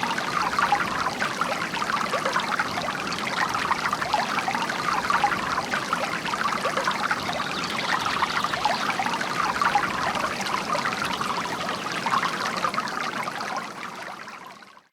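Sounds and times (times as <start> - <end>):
fountain water splashing into basin: 0.0 - 14.8.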